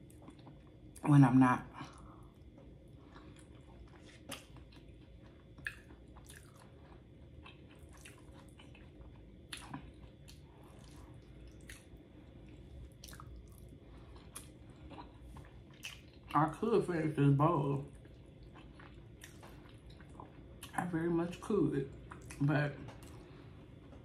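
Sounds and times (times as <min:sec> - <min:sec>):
faint chewing: 0:00.0 - 0:01.0, 0:01.8 - 0:16.4, 0:17.9 - 0:20.8, 0:21.9 - 0:24.0.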